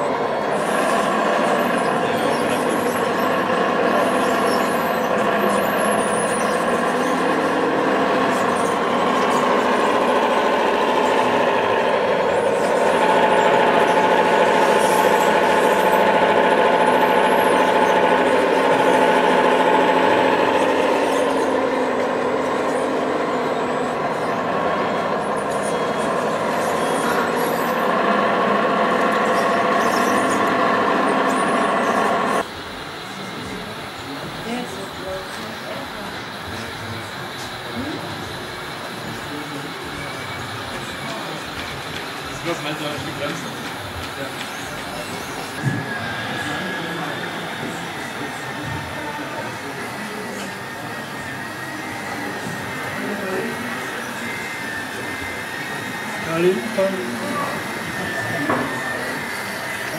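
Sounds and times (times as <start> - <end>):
model motors whining: 0.0 - 59.9.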